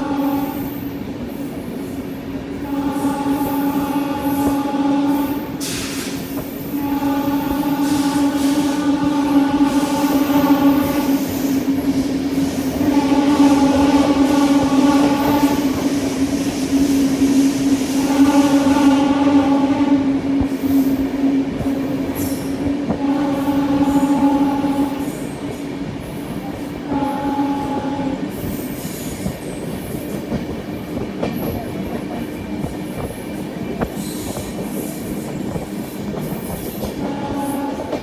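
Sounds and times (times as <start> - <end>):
train wheels clattering on track: 0.6 - 38.0.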